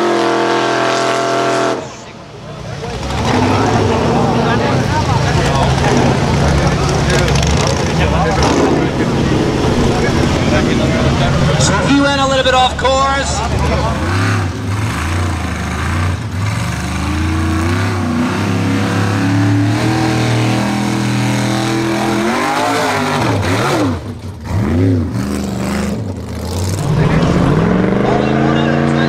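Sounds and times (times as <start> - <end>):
off-road car engine revving: 0.0 - 29.0.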